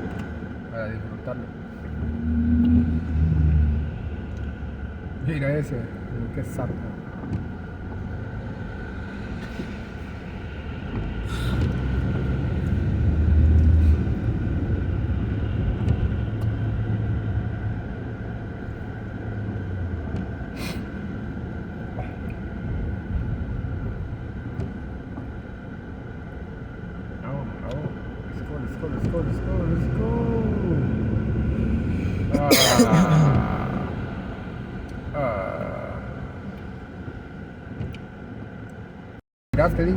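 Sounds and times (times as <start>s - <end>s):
heavy vehicle rumble: 0.0s - 39.9s
traffic on wet road: 0.0s - 39.9s.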